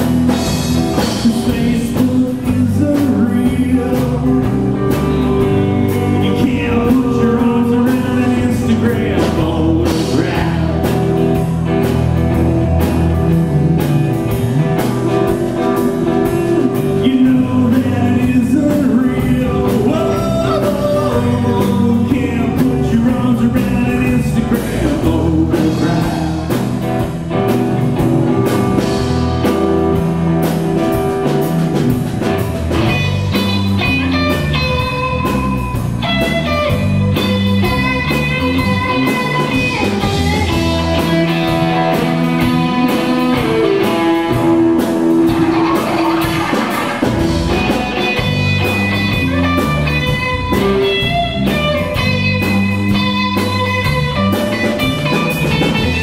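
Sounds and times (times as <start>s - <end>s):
drum kit beat: 0.0s - 56.0s
electric bass: 0.0s - 56.0s
electric guitar: 0.0s - 56.0s.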